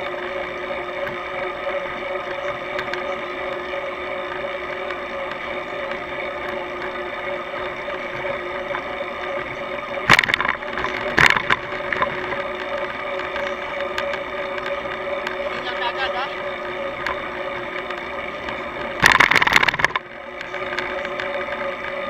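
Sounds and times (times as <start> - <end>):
bicycle riding noise: 0.0 - 22.0
steady whine: 0.0 - 22.0.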